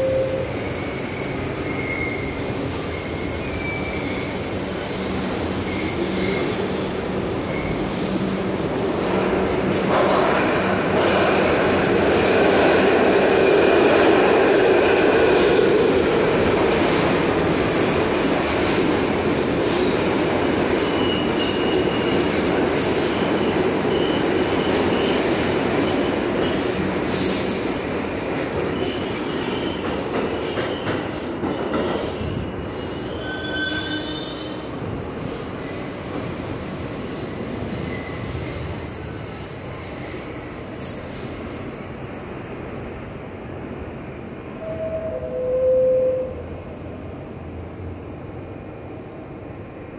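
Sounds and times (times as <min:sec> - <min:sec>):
subway train rumbling: 0:00.0 - 0:49.9.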